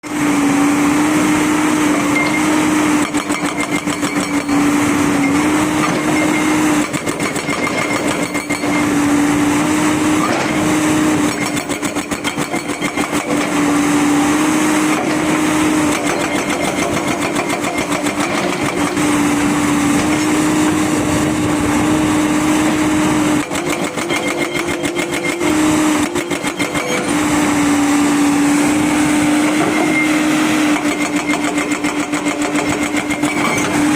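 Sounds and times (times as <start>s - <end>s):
excavator engine hum: 0.0s - 33.9s
hydraulic rock breaker hammering: 0.5s - 33.9s.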